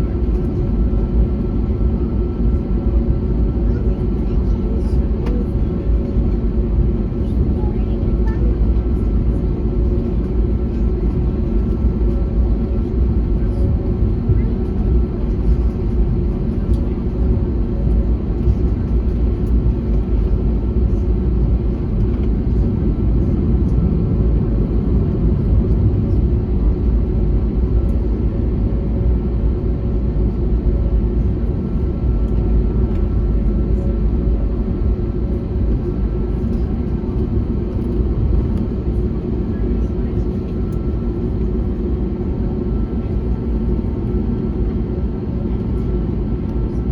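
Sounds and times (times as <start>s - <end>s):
jet engines rumbling: 0.0s - 46.7s.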